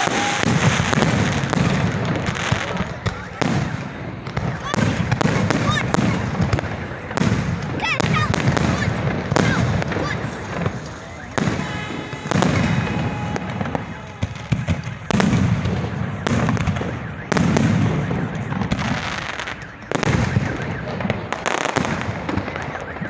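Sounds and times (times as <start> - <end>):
fireworks bursting with bangs: 0.0 - 23.0
fireworks crackling: 0.0 - 23.0.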